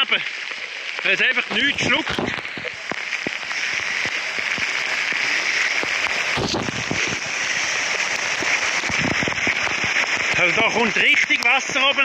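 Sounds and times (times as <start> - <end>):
heavy rain on wet road: 0.0 - 12.0.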